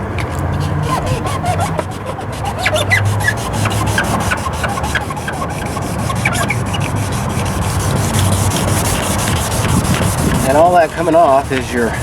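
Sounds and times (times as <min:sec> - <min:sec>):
sandpaper rubbing on plastic: 0:00.2 - 0:12.0.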